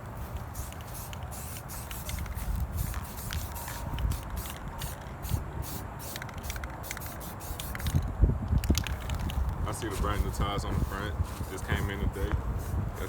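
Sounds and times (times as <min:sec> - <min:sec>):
spray paint can hissing: 0:00.2 - 0:13.0.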